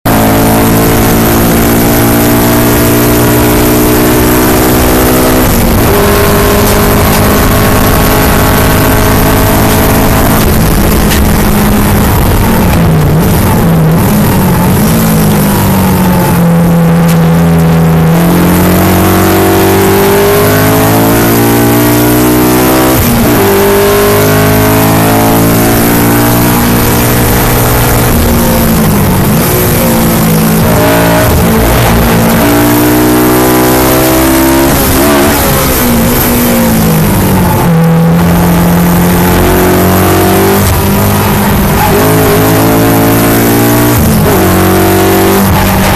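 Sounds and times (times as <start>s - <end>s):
race car engine revving: 0.0s - 45.9s
wind and road noise: 0.1s - 45.9s.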